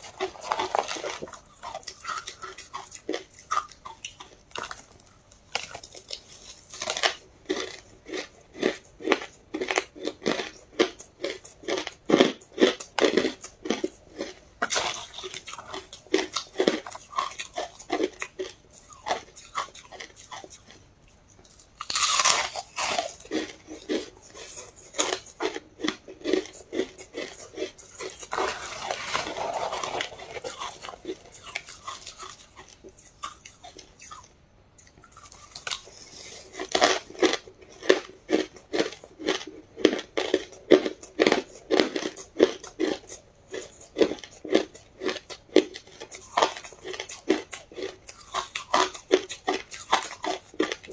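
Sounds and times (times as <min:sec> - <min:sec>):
ice crunching being chewed: 0:00.0 - 0:50.9.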